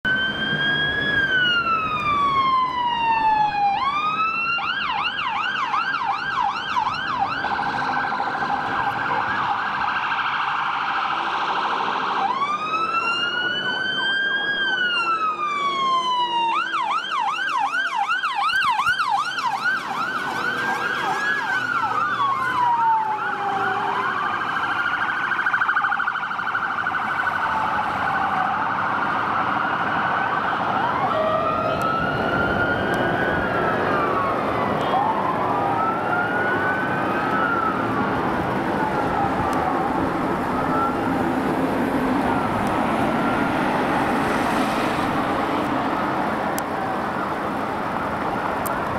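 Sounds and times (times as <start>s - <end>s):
fire engine sirens: 0.0s - 48.9s.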